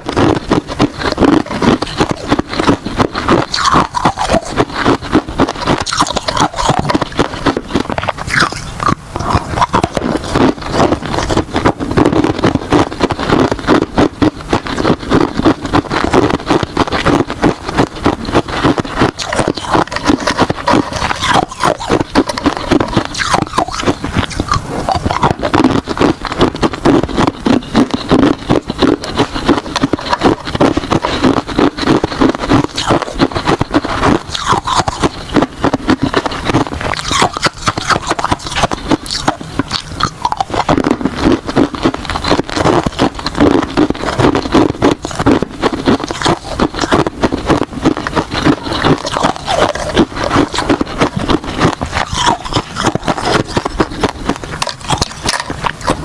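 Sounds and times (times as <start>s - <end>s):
person crunching ice: 0.0s - 56.0s.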